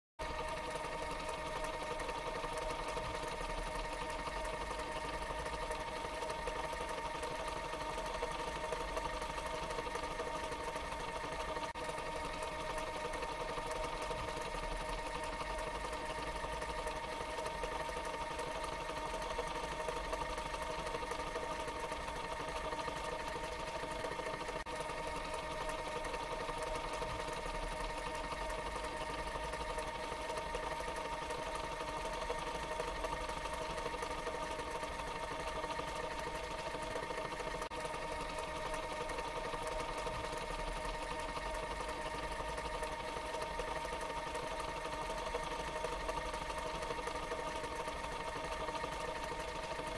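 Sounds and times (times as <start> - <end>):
tape machine fast-forwarding: 0.2 - 49.9.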